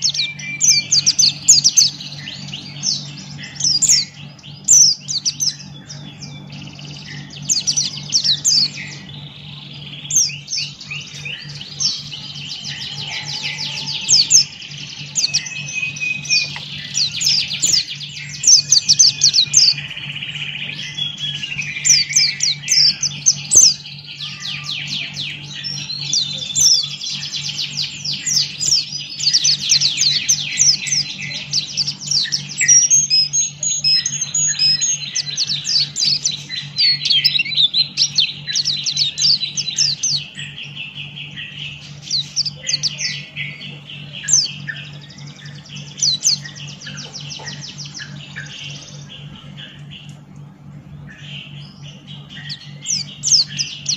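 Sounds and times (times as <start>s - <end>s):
bird twittering song: 0.0s - 53.9s
steady low hum: 0.0s - 53.9s.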